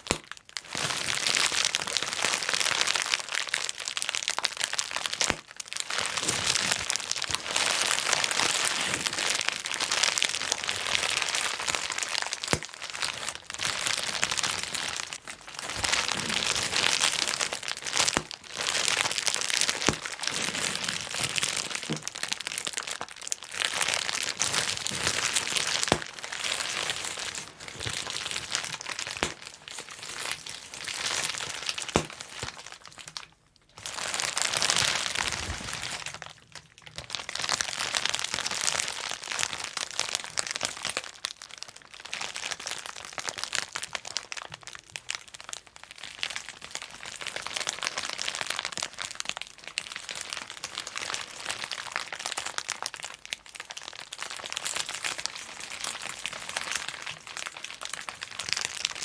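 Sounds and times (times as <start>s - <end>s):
bubble wrap crinkling and popping: 0.0s - 59.0s.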